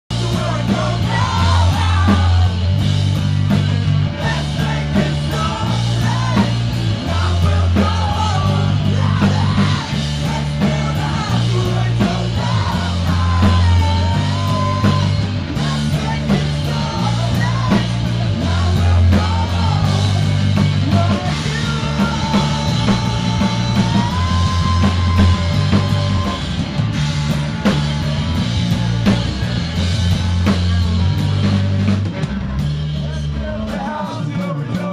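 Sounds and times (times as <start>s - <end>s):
driving drum kit: 0.0s - 34.9s
heavy bass riff: 0.0s - 34.9s
distorted electric guitar: 0.1s - 33.9s.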